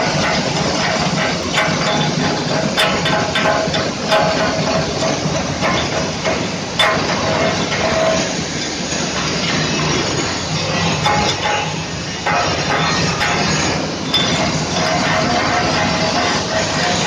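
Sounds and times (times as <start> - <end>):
welding arc crackling hiss: 0.0 - 17.0.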